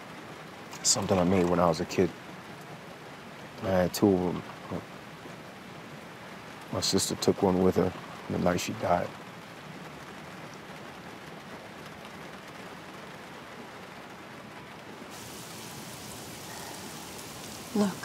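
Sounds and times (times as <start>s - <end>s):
rain on a car roof: 0.0s - 18.0s.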